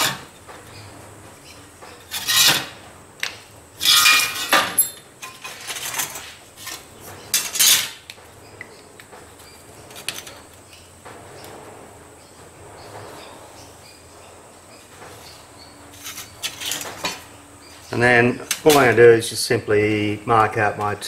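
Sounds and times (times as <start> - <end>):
metal sheets clattering and scraping: 0.0 - 3.0, 3.8 - 8.4, 9.1 - 19.1.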